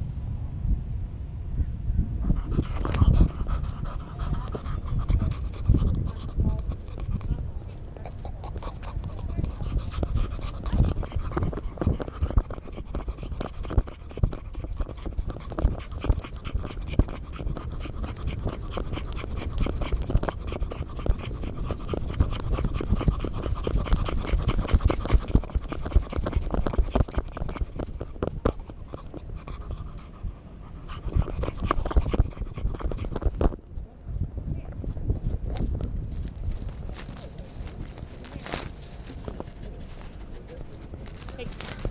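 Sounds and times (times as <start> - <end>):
dog panting: 2.2 - 33.6, 34.6 - 41.9.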